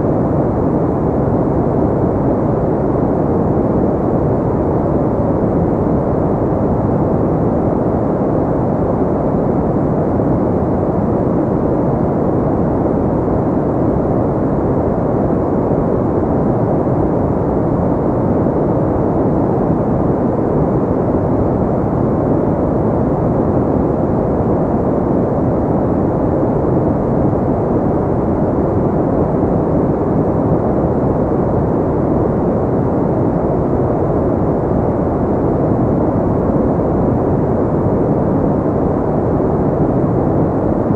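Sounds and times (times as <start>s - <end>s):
steady pink noise: 0.0s - 40.9s.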